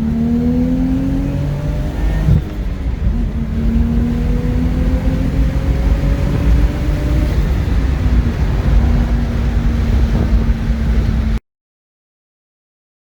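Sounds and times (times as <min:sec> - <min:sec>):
car engine low rumble: 0:00.0 - 0:11.4
rising tone: 0:00.0 - 0:11.4.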